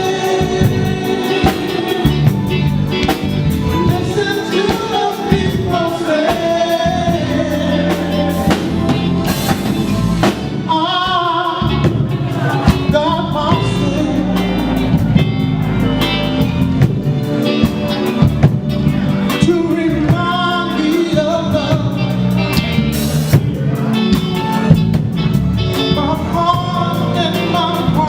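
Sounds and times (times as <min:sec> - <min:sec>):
drum kit: 0:00.0 - 0:28.0
guitar: 0:00.0 - 0:28.0
keyboards: 0:00.0 - 0:28.0
person singing: 0:00.0 - 0:28.0.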